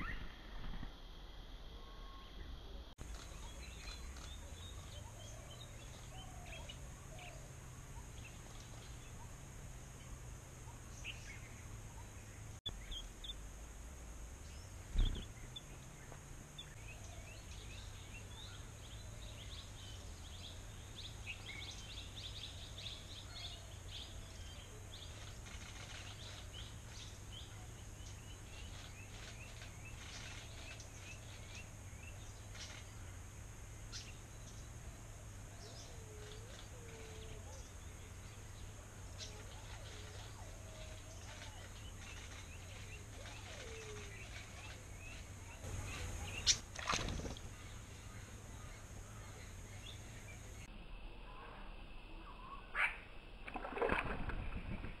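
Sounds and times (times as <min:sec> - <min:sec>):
steady high hiss: 0:00.0 - 0:53.4
wild birds chirping: 0:01.8 - 0:54.8.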